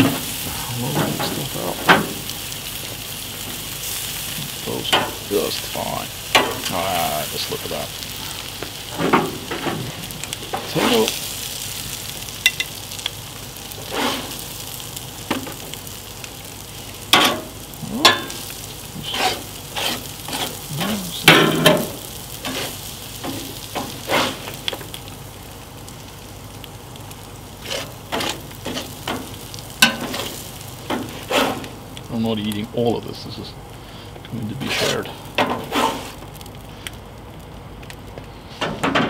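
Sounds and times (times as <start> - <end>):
potatoes sizzling on griddle: 0.0 - 39.0.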